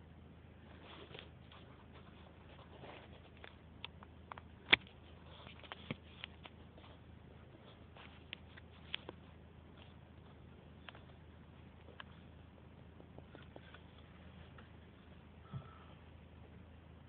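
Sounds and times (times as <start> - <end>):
low steady background: 0.0 - 17.0.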